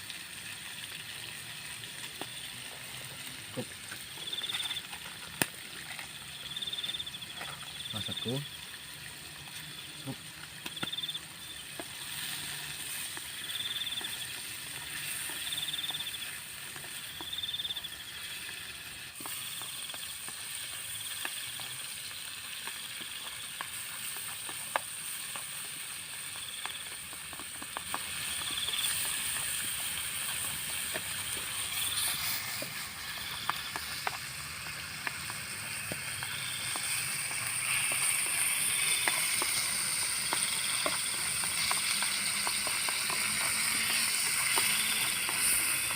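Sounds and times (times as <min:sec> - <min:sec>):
food sizzling in a pan: 0:00.0 - 0:45.9.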